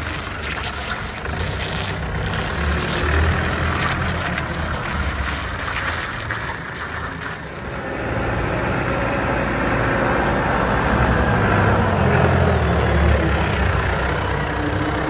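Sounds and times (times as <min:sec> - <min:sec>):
forklift diesel engine droning: 0:00.0 - 0:15.0.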